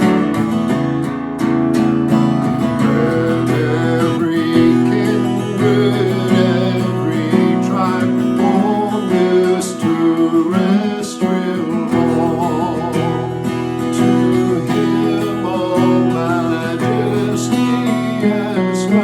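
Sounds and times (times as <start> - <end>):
acoustic guitar strumming and picking: 0.0 - 19.0.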